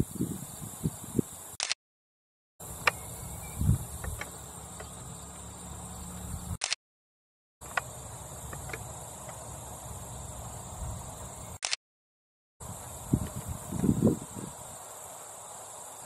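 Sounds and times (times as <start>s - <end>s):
high insect-like hum: 0.0s - 1.7s, 2.6s - 6.7s, 7.6s - 11.8s, 12.6s - 16.0s.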